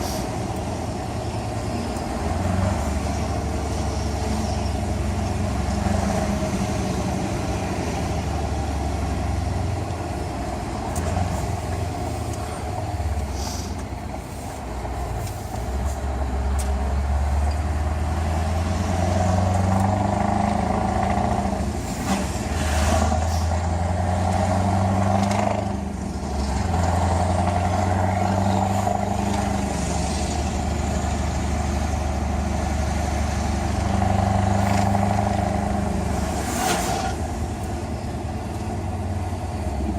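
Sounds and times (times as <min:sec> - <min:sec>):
truck engine revving: 0:00.0 - 0:14.2, 0:15.8 - 0:39.9.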